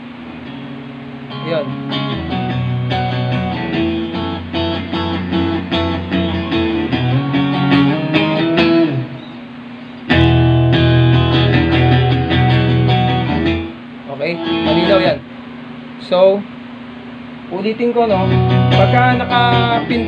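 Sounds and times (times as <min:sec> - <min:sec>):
plucked guitar music: 0:00.2 - 0:09.3, 0:10.1 - 0:15.2, 0:18.0 - 0:20.0.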